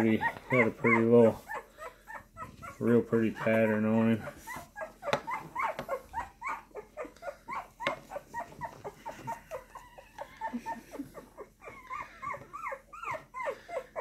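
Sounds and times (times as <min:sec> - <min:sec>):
puppy whimpering: 0:00.0 - 0:14.0.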